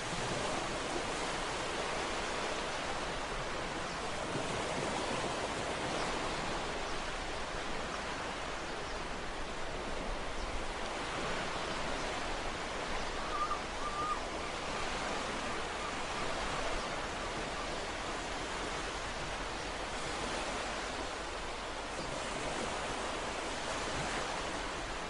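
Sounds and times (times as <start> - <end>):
ocean waves washing on shore: 0.0 - 25.0.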